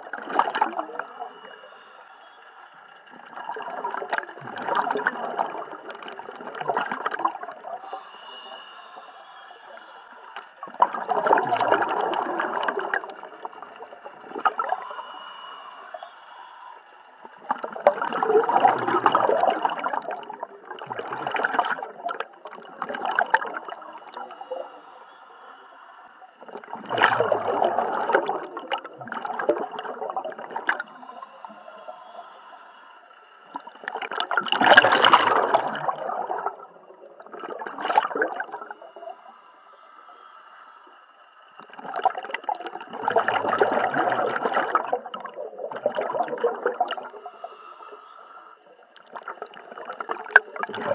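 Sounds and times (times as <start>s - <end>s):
exhaled breath bubbling underwater: 0.0s - 50.9s.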